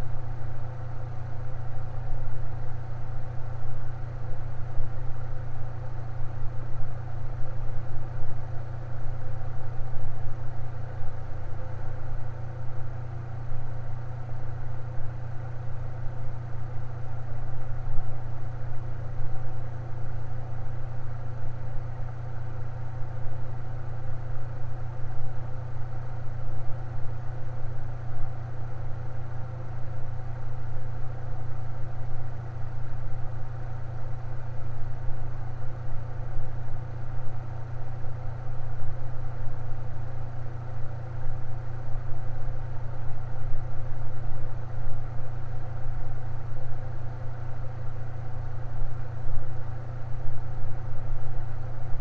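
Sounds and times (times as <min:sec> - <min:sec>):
electric fan running: 0:00.0 - 0:52.0.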